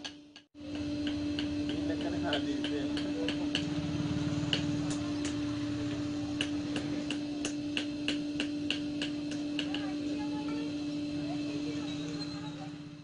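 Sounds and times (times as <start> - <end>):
sharp ticking: 0.0 - 12.2
steady low hum: 0.0 - 13.0.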